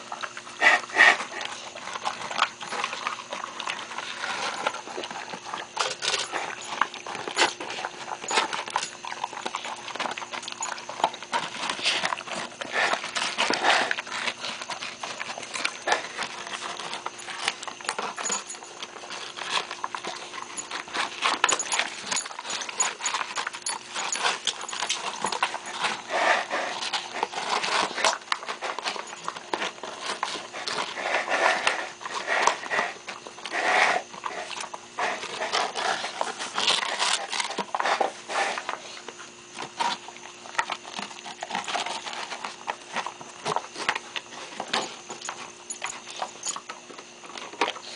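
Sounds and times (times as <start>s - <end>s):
puppy eating from plastic tub: 0.0s - 47.9s.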